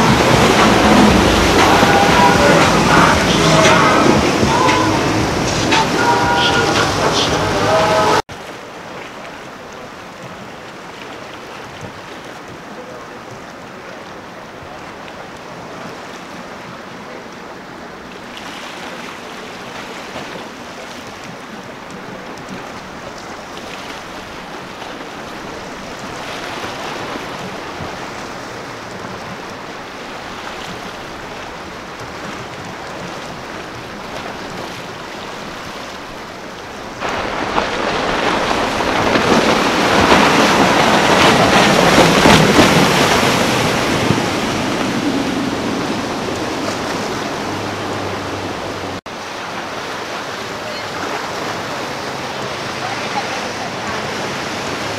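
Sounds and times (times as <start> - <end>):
boat outboard motors: 0.0 - 54.9
sea water washing: 0.0 - 54.9
wind: 0.0 - 54.9.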